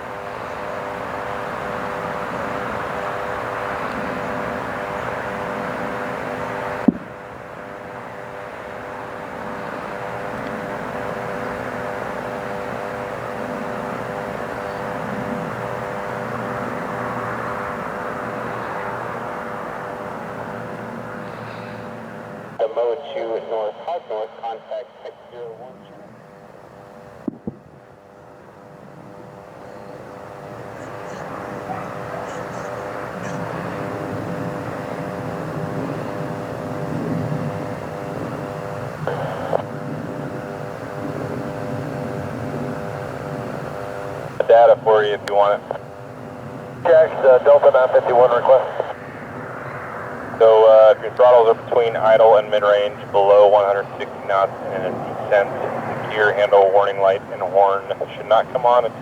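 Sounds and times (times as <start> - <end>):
airplane engine drone: 0.0 - 59.0.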